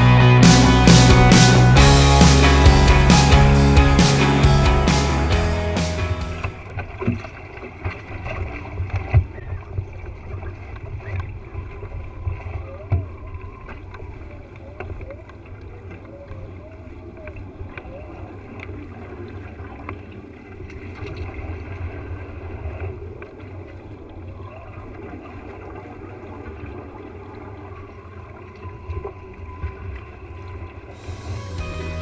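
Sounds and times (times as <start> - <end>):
water along hull: 6.3 - 32.0.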